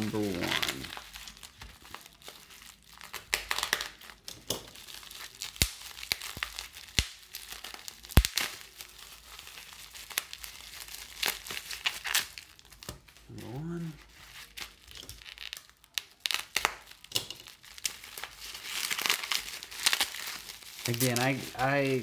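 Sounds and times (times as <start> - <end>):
bubble wrap crinkling: 0.0 - 22.0
bubble wrap snapping: 0.0 - 22.0.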